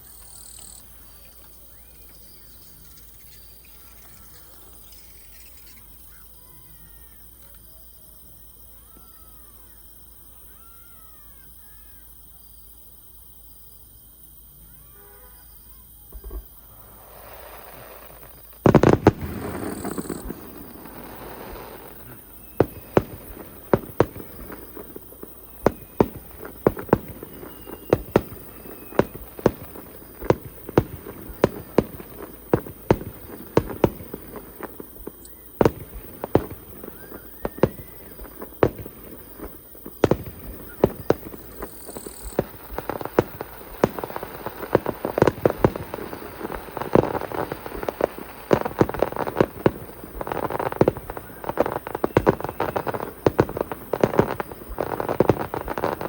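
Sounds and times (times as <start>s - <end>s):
fireworks bangs and crackle: 0.0s - 11.0s, 16.0s - 56.0s.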